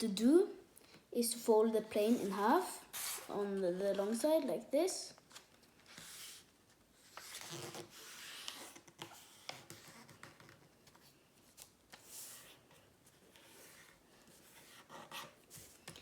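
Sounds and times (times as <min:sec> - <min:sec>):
paper rustling and folding: 0:02.1 - 0:16.0.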